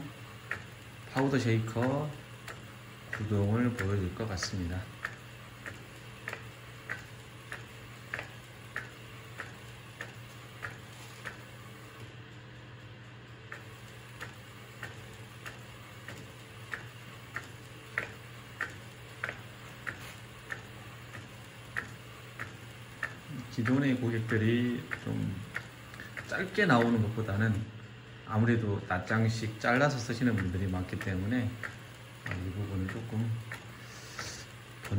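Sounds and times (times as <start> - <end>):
printer low hum: 0.0 - 34.9.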